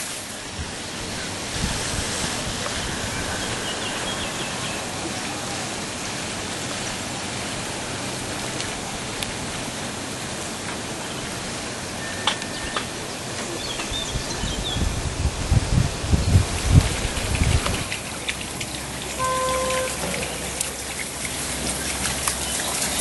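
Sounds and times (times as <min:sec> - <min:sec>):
running water: 0:00.0 - 0:23.0.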